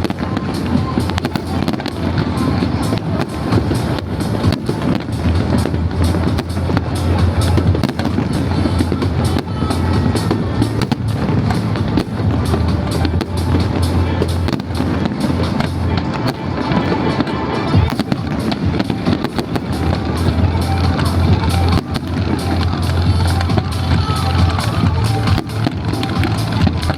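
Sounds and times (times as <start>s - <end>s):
fireworks bangs and crackles: 0.0s - 26.9s
music with heavy bass: 0.0s - 26.9s.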